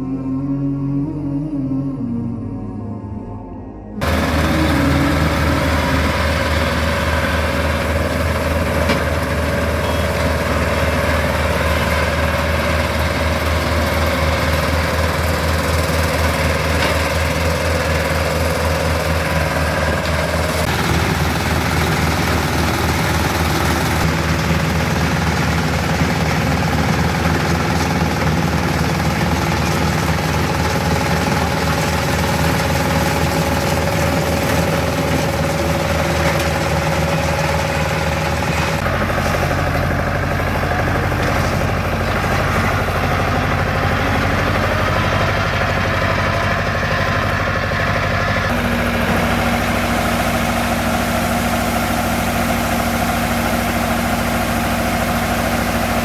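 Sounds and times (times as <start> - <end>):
combine harvester engine drone: 0.0 - 56.0
machinery whine: 0.0 - 56.0.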